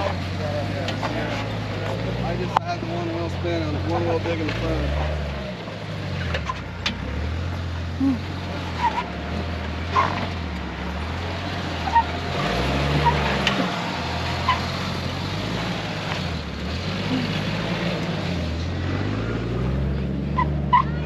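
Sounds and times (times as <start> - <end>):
car engine revving under load: 0.0 - 21.0.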